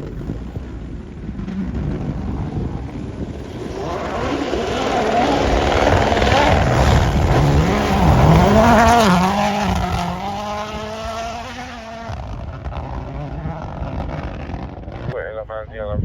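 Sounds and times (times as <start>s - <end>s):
rally car engine revving past: 1.4s - 15.2s.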